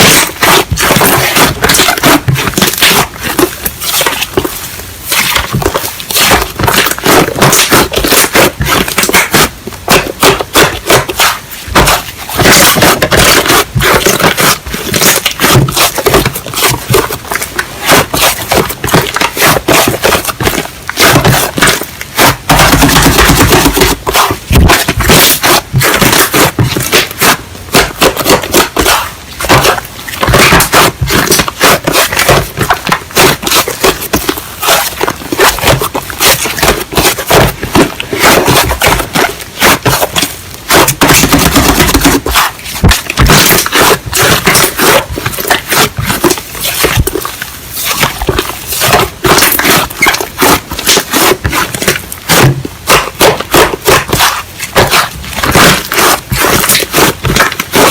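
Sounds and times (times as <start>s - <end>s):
slime squished by hand: 0.1s - 57.9s.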